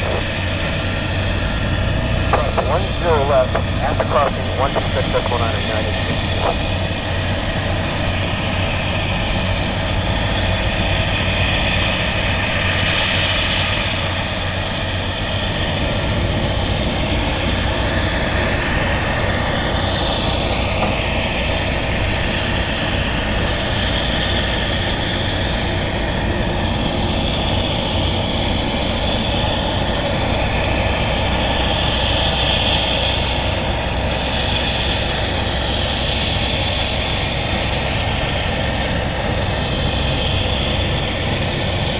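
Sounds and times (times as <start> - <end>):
jet airliner engines passing: 0.0 - 41.9.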